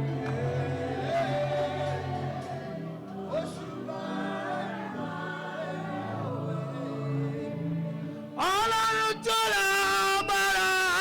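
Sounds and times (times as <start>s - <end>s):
congregation singing: 0.0s - 11.0s.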